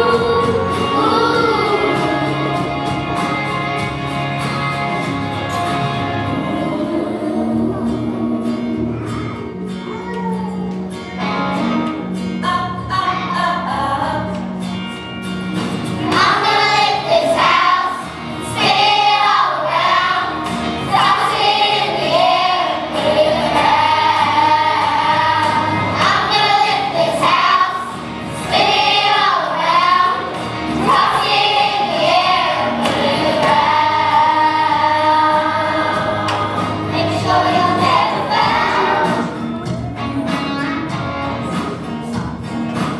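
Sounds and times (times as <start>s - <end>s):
children's choir singing: 0.0s - 9.5s, 12.8s - 14.4s, 16.0s - 42.4s
instrumental backing music: 0.0s - 42.9s.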